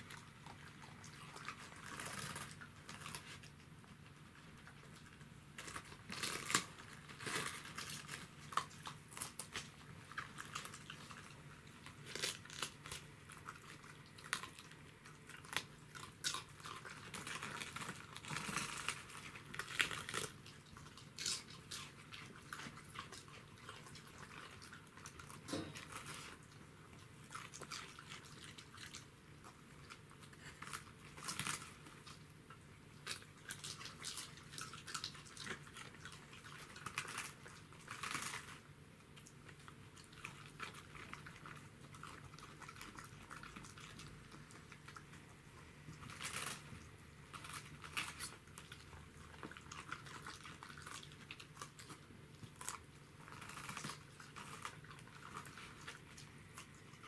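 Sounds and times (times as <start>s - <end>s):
dogs crunching cabbage leaves: 0.0s - 57.0s.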